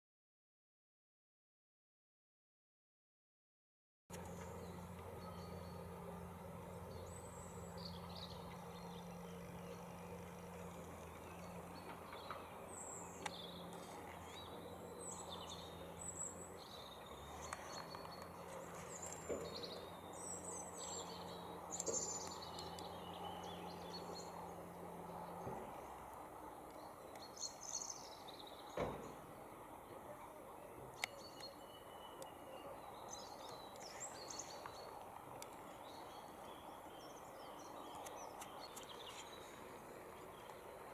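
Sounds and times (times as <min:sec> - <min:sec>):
steady low hum: 0:04.1 - 0:40.9
songbirds chirping and singing: 0:04.2 - 0:40.9.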